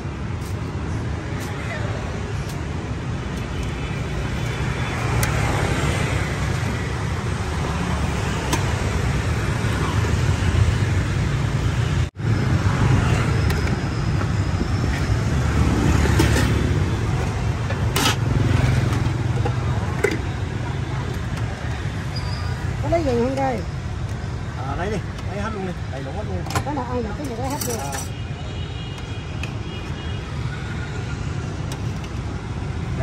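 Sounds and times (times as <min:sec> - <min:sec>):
street traffic hum: 0:00.0 - 0:33.0.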